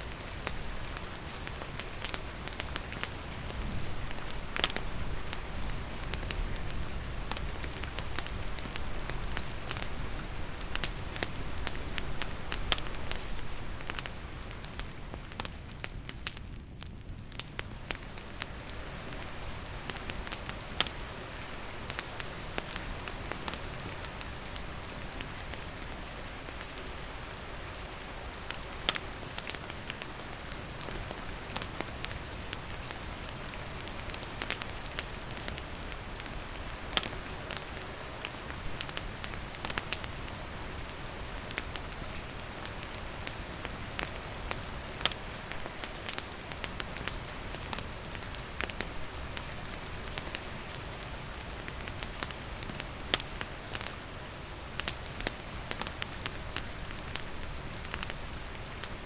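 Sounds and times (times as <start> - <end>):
campfire crackling: 0.0 - 59.0
rain falling on wood and forest: 0.0 - 59.0.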